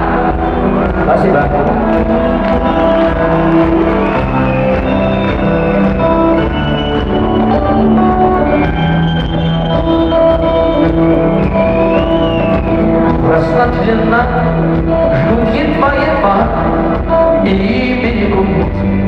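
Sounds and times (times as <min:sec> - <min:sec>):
drums: 0:00.0 - 0:19.0
guitar: 0:00.0 - 0:19.0
held keyboard chords: 0:00.0 - 0:19.0.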